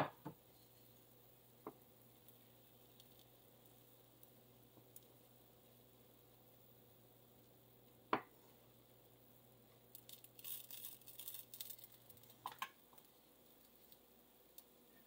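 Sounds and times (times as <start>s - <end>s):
faint high crackling: 0.4s - 15.0s.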